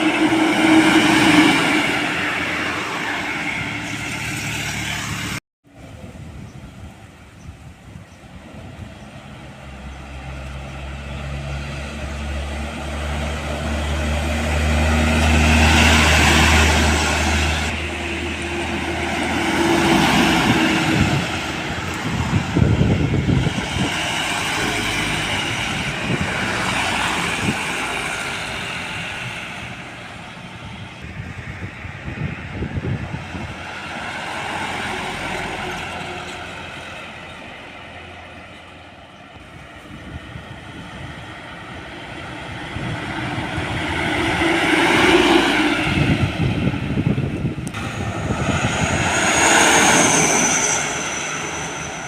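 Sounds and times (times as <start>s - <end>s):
heavy vehicles passing: 0.0s - 6.0s, 8.3s - 52.0s.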